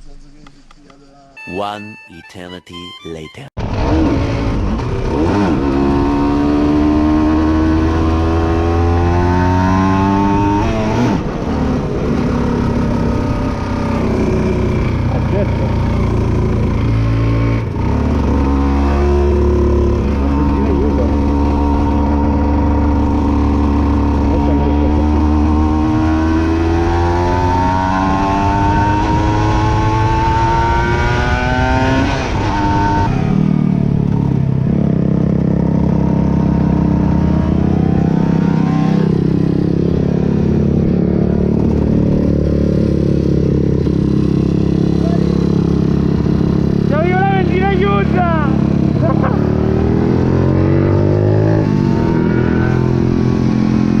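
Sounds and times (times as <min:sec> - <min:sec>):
motorcycle engine revving: 0:03.6 - 0:54.0.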